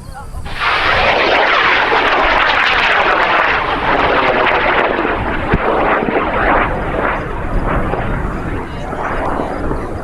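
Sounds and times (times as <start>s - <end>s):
rocket motor roaring: 0.4s - 10.0s.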